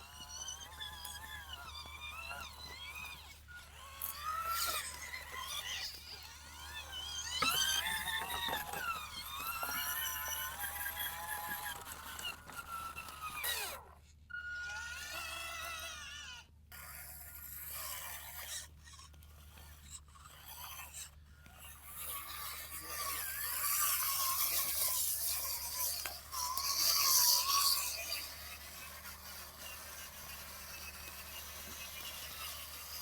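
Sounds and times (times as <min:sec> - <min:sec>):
small electric motors whining: 0:00.0 - 0:33.0.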